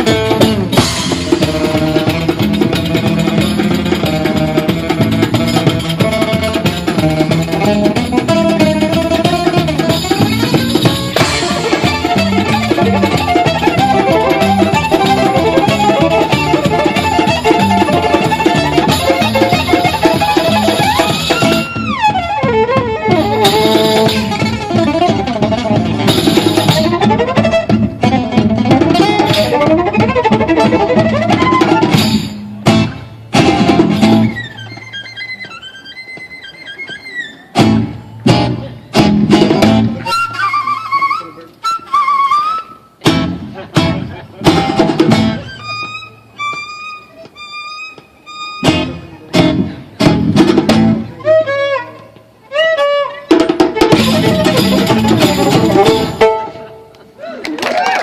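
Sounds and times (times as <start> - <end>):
fiddle playing fast melody: 0.0 - 57.0
guitar accompaniment: 0.0 - 57.2.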